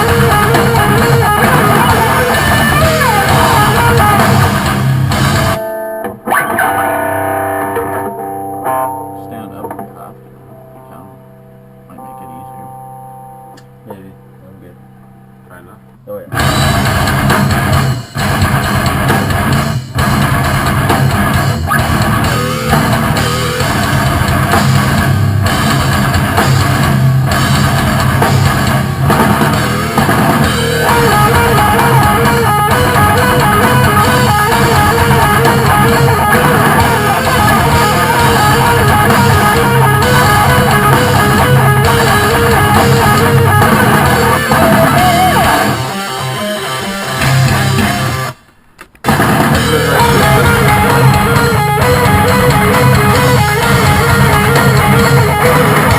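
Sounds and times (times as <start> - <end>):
drum kit: 0.0 - 10.1, 16.3 - 55.9
lead guitar with bending notes: 0.0 - 48.5, 49.1 - 55.9
distorted electric guitars: 0.0 - 55.9.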